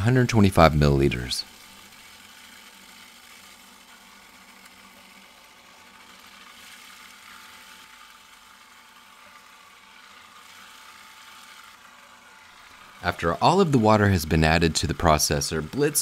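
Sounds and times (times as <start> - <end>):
food processor motor whirring: 0.0 - 16.0.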